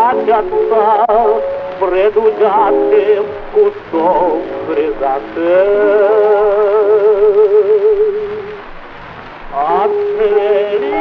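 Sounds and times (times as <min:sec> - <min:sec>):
man singing with vibrato: 0:00.0 - 0:08.6, 0:09.5 - 0:11.0.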